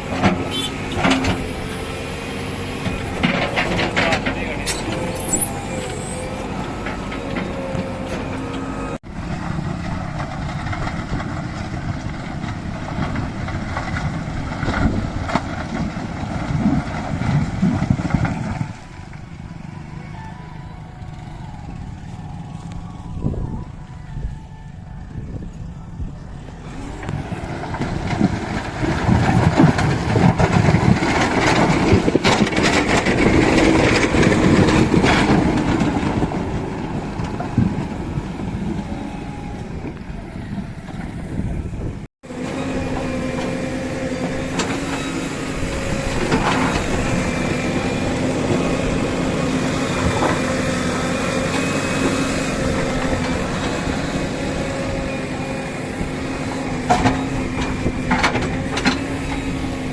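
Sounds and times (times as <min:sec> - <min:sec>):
heavy diesel machinery engines: 0:00.0 - 0:59.9.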